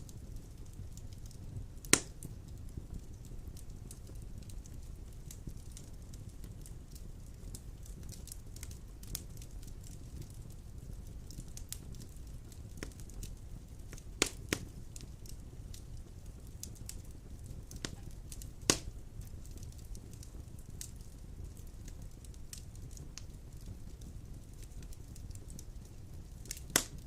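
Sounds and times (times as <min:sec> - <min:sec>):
fire crackling and popping: 0:00.0 - 0:27.0
wood fire rumbling: 0:00.0 - 0:27.0.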